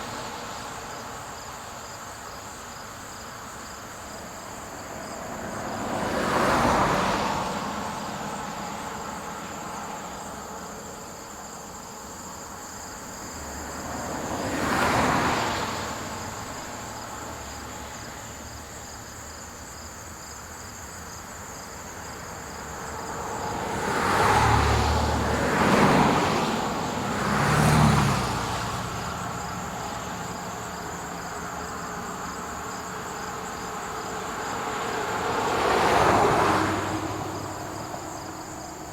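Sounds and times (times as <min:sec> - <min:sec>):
crickets chirping: 0:00.0 - 0:38.9
vehicles passing: 0:00.0 - 0:38.9.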